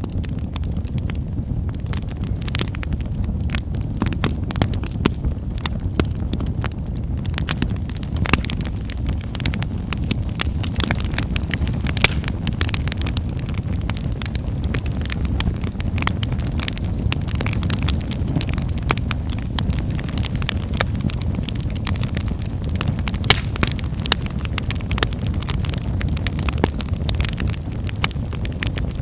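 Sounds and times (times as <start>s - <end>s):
fire crackles and pops: 0.0s - 29.0s
wood fire rumbling: 0.0s - 29.0s.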